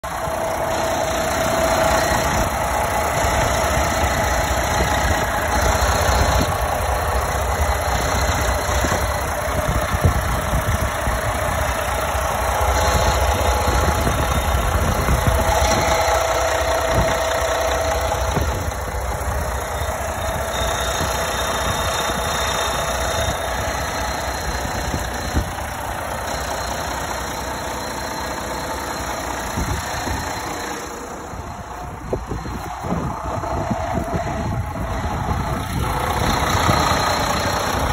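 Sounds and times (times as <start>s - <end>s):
diesel truck engine idling: 0.0s - 37.9s.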